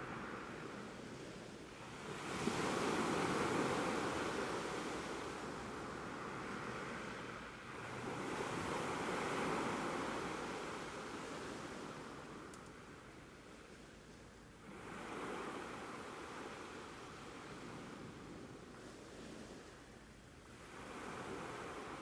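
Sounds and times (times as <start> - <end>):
ocean waves washing in: 0.0 - 12.4, 14.6 - 19.6, 20.4 - 22.0.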